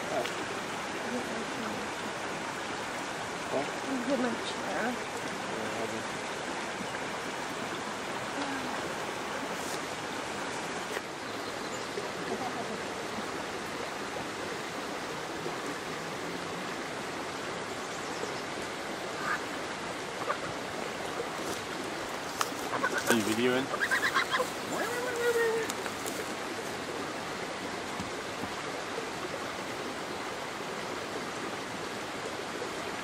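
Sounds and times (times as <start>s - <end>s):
creek water flowing: 0.0s - 33.0s.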